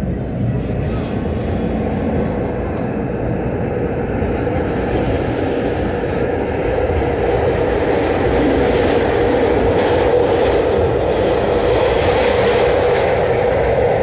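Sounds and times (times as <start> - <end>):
trolley wheels rumbling on rail: 0.0 - 14.0.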